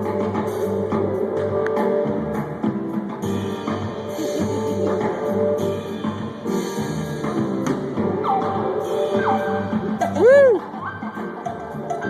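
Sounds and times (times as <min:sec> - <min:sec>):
bass guitar chords: 0:00.0 - 0:12.0
drum kit: 0:00.0 - 0:12.0.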